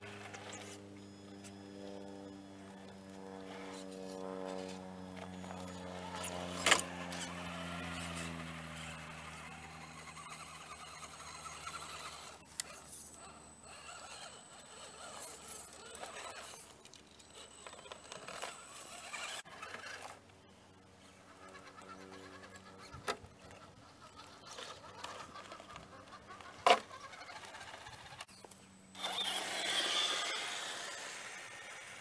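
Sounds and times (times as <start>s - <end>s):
toy truck motor whine: 0.0s - 20.3s, 21.1s - 32.0s.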